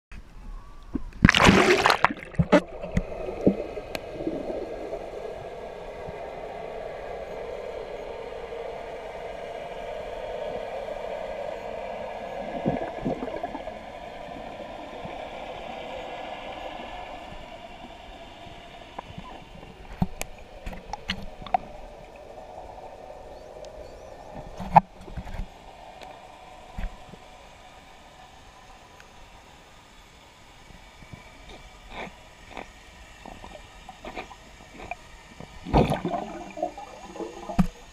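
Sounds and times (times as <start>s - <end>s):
muffled underwater rush: 0.5s - 28.2s, 33.4s - 37.9s.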